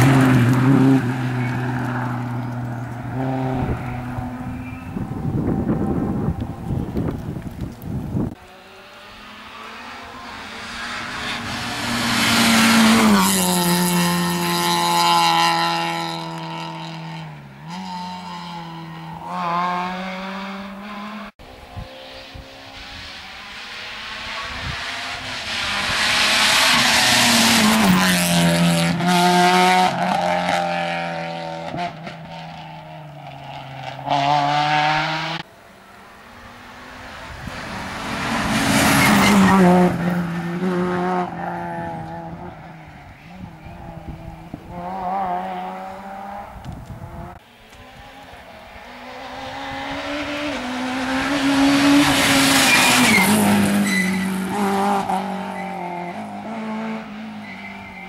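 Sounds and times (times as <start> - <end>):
rally cars passing: 0.0 - 58.0.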